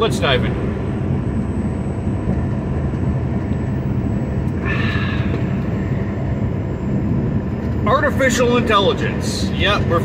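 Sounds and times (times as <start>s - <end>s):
low truck engine rumble: 0.0s - 10.0s.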